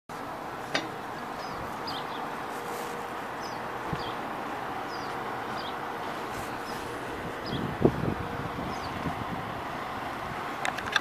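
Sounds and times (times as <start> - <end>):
street ambience hum: 0.1 - 11.0.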